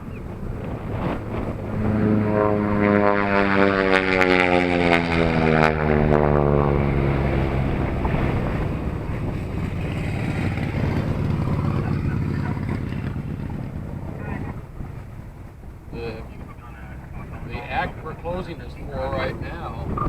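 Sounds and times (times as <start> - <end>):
airplane passing low overhead: 0.0 - 20.0
wind buffeting microphone: 0.0 - 20.0.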